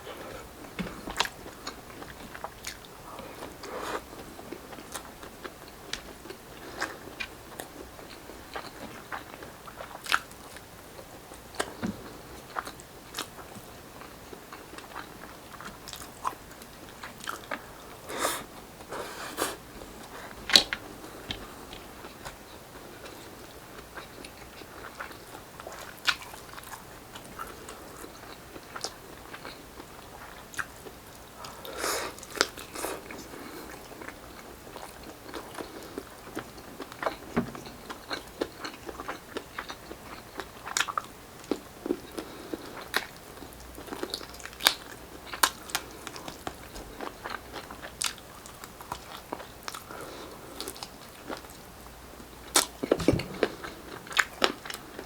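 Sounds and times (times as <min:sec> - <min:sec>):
biting and chewing crunchy food: 0:01.0 - 0:55.0.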